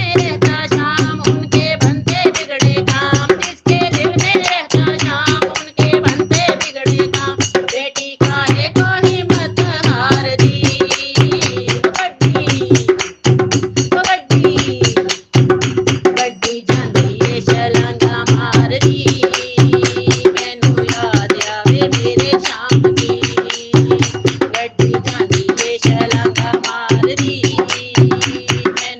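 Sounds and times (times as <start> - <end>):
person singing: 0.0 - 13.0, 13.9 - 15.1, 16.1 - 28.9
fast hand-drum beat: 0.0 - 28.9.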